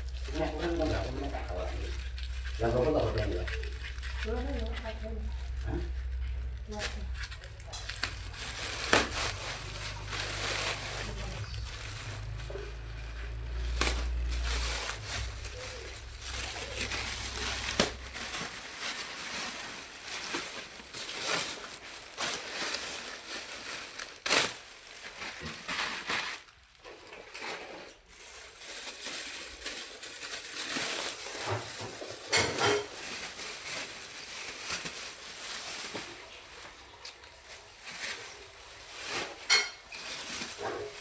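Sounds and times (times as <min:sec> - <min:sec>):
packaging crinkling: 0:00.0 - 0:41.0.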